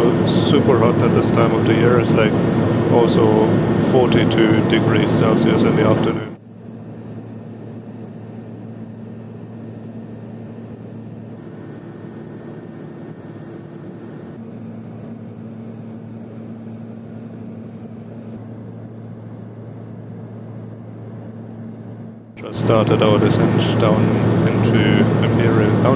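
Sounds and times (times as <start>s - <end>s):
turboprop engine cabin drone: 0.0s - 25.9s.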